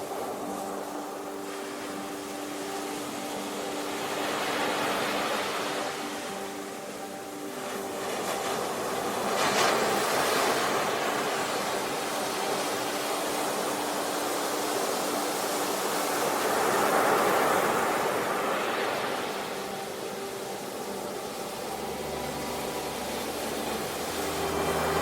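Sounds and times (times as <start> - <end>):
waves breaking: 0.0 - 25.0.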